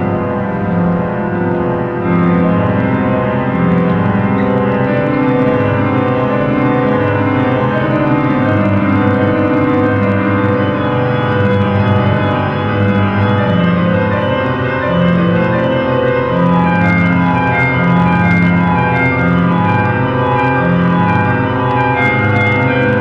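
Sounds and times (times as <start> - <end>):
organ-like keyboard music: 0.0 - 23.0.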